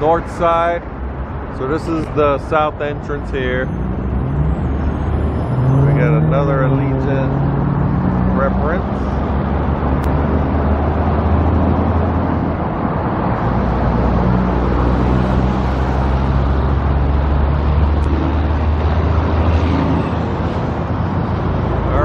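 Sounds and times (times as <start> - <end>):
road noise: 0.0 - 22.0
car engine hum: 1.0 - 22.0.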